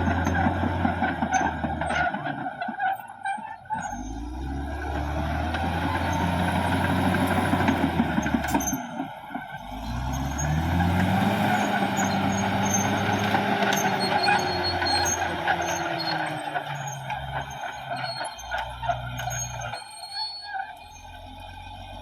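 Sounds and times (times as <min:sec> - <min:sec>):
metallic squeaks and clicks: 0:00.0 - 0:21.4
bulldozer diesel engine revving: 0:00.0 - 0:22.0.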